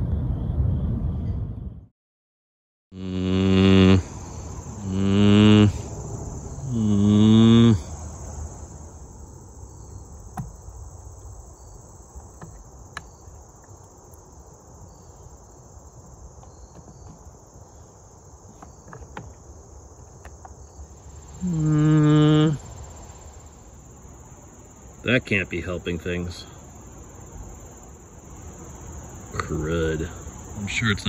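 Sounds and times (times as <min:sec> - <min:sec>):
insect chorus: 0:02.9 - 0:31.0.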